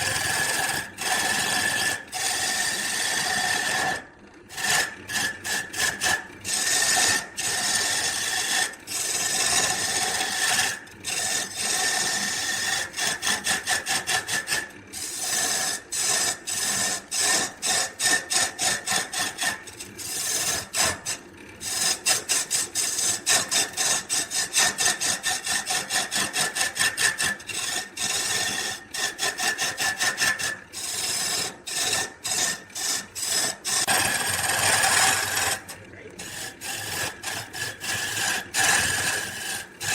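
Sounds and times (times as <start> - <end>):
hand tool rasping on wood: 0.0 - 39.9.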